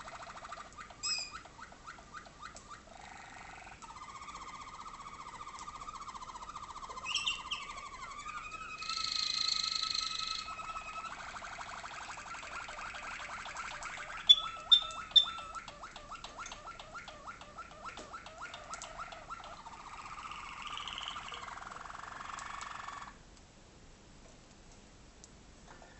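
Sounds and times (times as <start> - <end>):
canary singing: 0.0 - 23.2.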